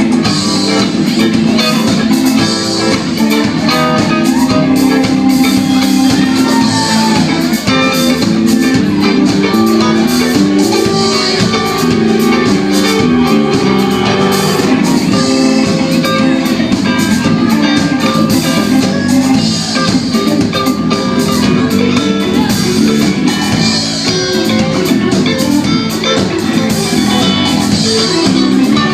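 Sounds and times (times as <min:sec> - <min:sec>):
drum kit: 0:00.0 - 0:28.9
electric guitar: 0:00.0 - 0:28.9
live rock band: 0:00.0 - 0:28.9.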